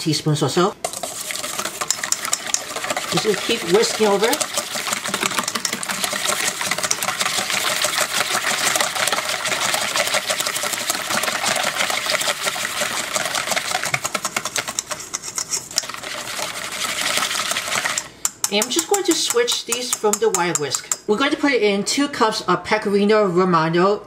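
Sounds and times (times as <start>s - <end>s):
wire whisk beating eggs in a bowl: 0.8s - 21.1s.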